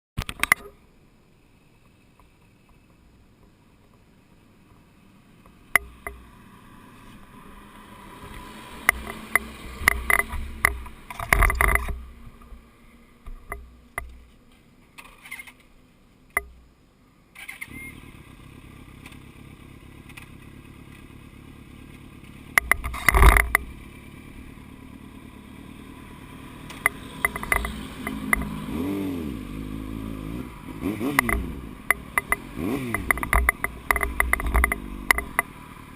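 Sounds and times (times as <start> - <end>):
motorcycle engine running: 1.6 - 14.4, 17.4 - 35.9.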